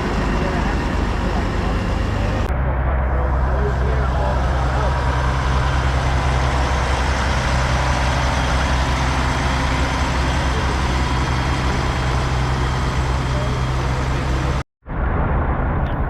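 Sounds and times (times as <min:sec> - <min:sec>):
diesel truck engine droning: 0:00.0 - 0:14.6.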